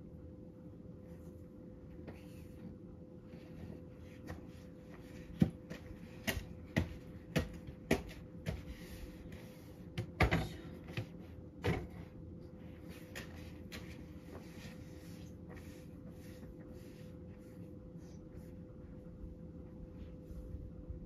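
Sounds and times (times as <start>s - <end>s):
fan heater humming: 0.0s - 21.0s.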